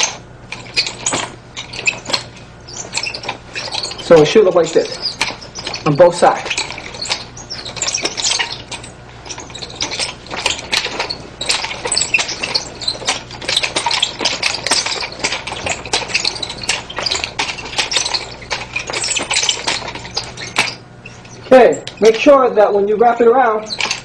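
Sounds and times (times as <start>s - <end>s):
chain rattling: 0.0s - 22.3s, 23.6s - 24.0s
wooden sticks clacking against hands: 0.0s - 22.3s, 23.6s - 24.0s.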